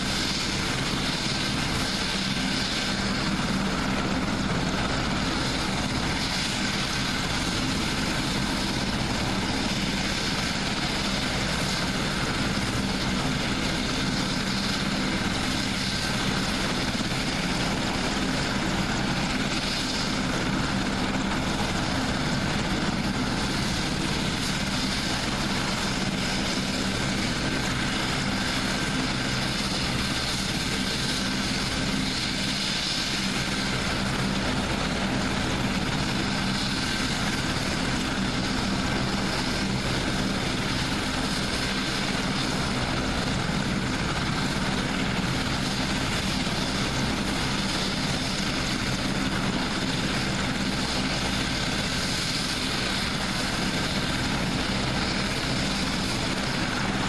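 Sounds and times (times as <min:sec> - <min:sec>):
helicopter running: 0:00.0 - 0:57.0
thin turbine whine: 0:00.0 - 0:57.0.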